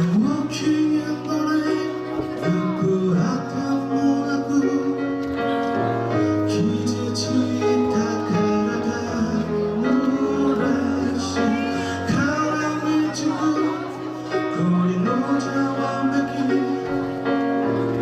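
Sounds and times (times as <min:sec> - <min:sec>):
live band playing rock ballad: 0:00.0 - 0:18.0.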